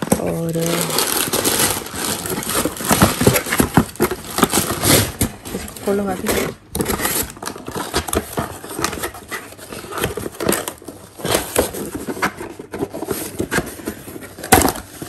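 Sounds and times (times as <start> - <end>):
cardboard scraping and rustling: 0.0 - 15.0.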